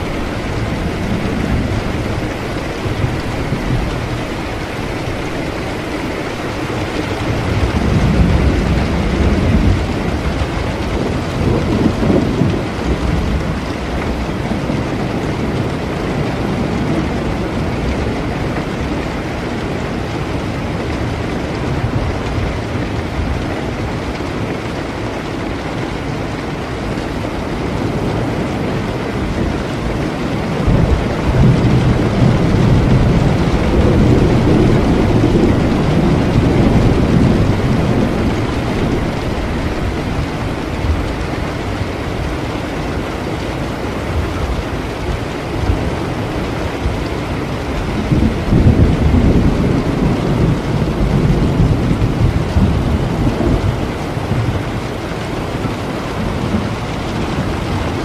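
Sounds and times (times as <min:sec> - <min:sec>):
rolling thunder: 0:00.0 - 0:25.4, 0:26.6 - 0:58.0
heavy rain: 0:00.0 - 0:58.0.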